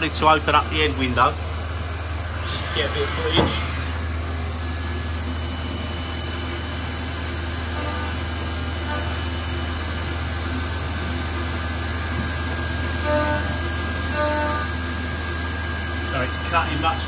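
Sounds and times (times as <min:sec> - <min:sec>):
low machine hum: 0:00.0 - 0:17.0
milling machine cutting with whine: 0:00.0 - 0:17.0.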